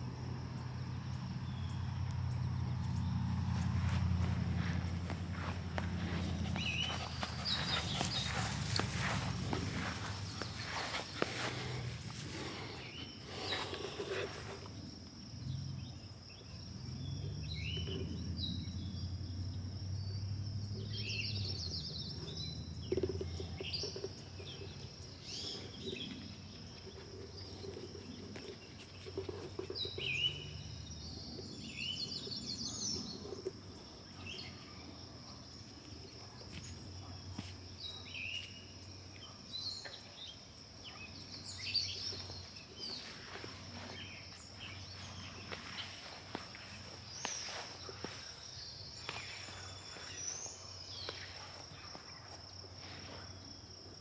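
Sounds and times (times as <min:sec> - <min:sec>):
birds chirping: 0:00.0 - 0:19.3, 0:20.0 - 0:53.8.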